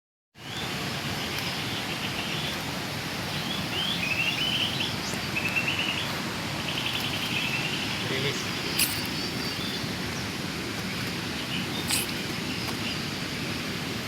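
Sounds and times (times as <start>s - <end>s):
steady background hiss: 0.4s - 14.0s
birds chirping: 1.3s - 13.1s.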